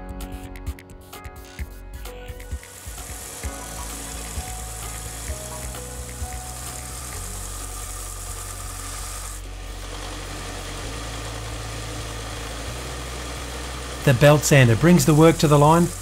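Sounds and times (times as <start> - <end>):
belt sander grinding metal: 2.5 - 16.0.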